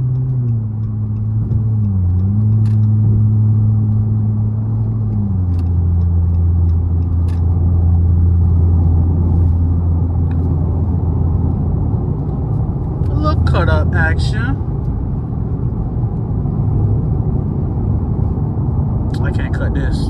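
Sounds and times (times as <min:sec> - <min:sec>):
car engine at highway speed: 0:00.0 - 0:20.0.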